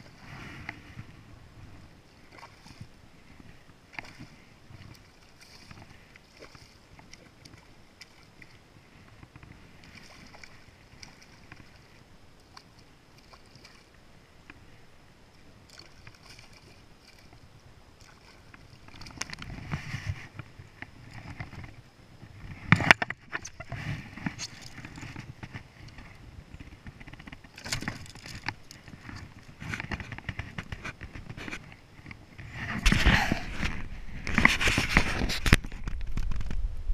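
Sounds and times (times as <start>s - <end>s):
water splashing and sloshing: 0.0s - 36.6s.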